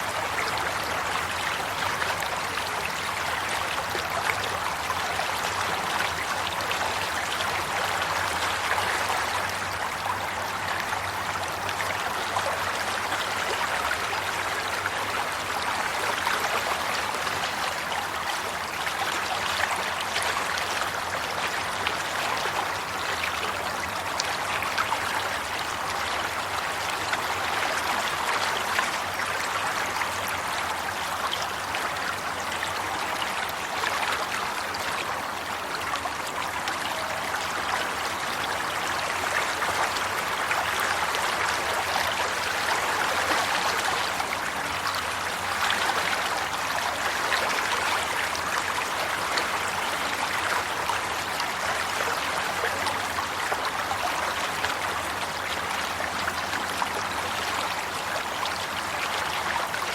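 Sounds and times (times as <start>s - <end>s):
stream running and splashing: 0.0s - 59.9s.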